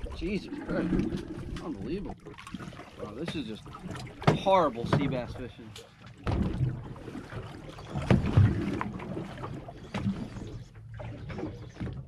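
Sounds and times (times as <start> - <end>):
boat engine hum: 0.0 - 12.0
water noise: 0.0 - 12.0
wind: 0.0 - 12.0.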